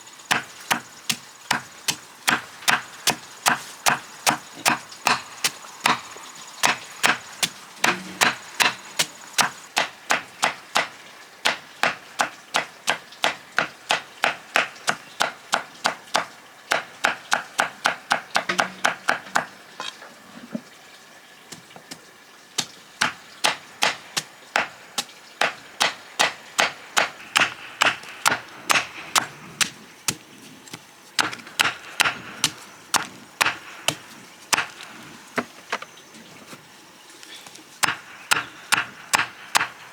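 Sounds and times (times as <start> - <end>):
blade chopping on wooden block: 0.3 - 19.5, 22.6 - 34.9, 37.8 - 39.7.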